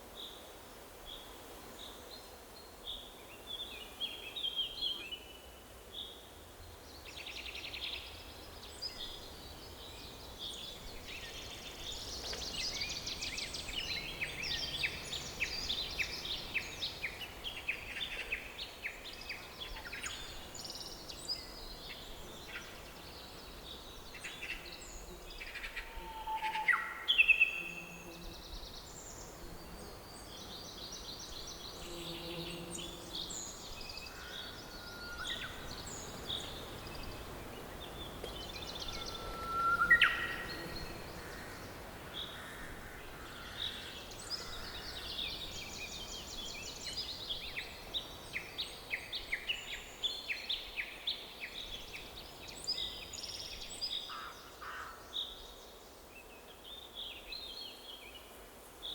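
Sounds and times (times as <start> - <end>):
songbirds singing and chirping: 1.0 - 58.9.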